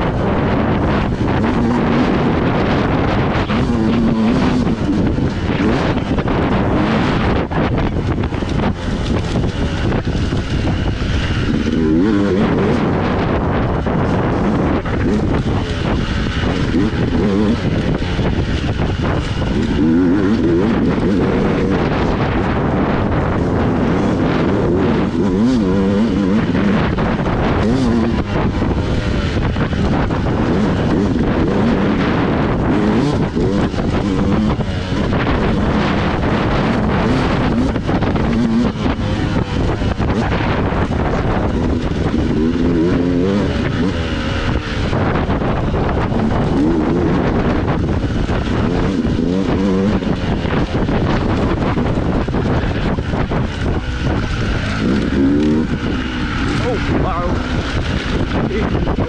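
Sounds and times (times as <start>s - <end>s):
constant rushing noise: 0.0s - 59.0s
dirt bike engine revving: 0.0s - 59.0s.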